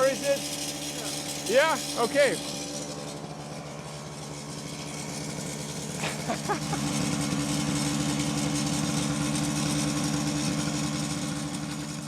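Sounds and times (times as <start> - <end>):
two-stroke motorcycle engine running: 0.0 - 12.0.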